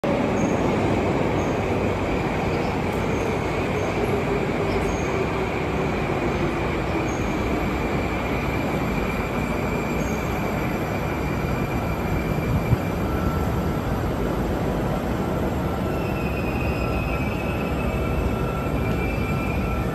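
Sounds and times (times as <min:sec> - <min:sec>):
metro train rumbling: 0:00.0 - 0:19.9.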